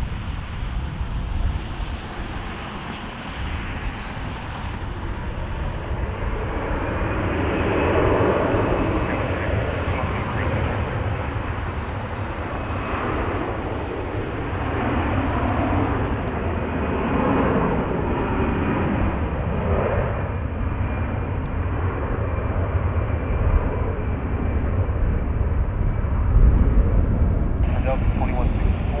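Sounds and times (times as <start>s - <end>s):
jet airliner taking off: 0.0s - 29.0s
wind buffeting microphone: 0.0s - 29.0s.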